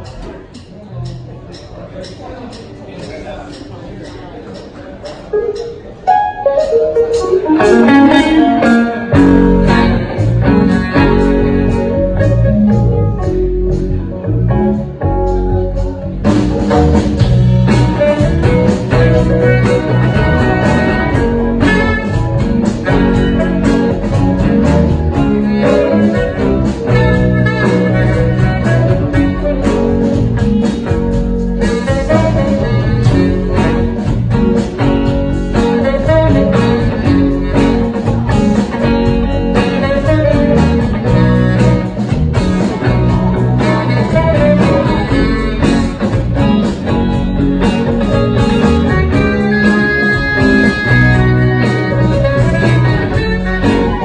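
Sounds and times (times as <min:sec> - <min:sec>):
blues band playing: 0:00.0 - 0:54.0.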